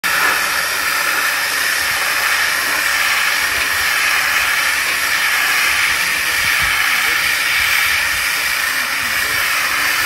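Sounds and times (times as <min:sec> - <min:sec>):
water jet hissing against metal: 0:00.0 - 0:10.0.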